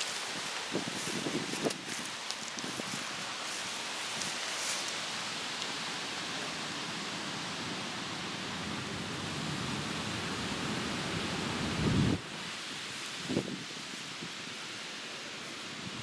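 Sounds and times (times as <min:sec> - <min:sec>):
outdoor ambience hiss: 0:00.0 - 0:16.0.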